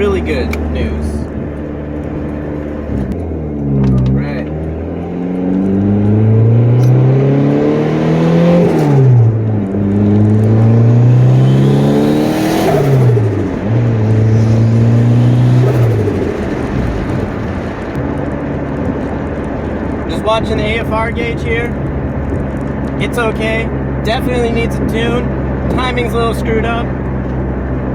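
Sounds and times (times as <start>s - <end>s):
car engine accelerating: 0.0s - 27.9s.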